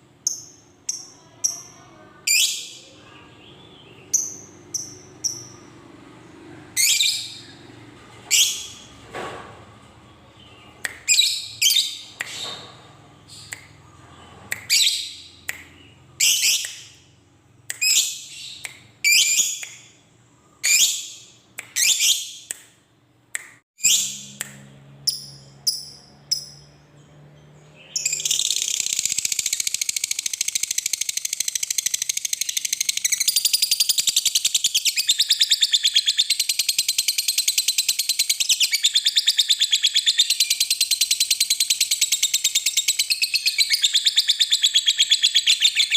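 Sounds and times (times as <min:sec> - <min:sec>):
lovebird chirping: 0:00.2 - 0:05.8, 0:06.4 - 0:08.9, 0:10.3 - 0:17.1, 0:17.7 - 0:22.5, 0:23.8 - 0:45.9.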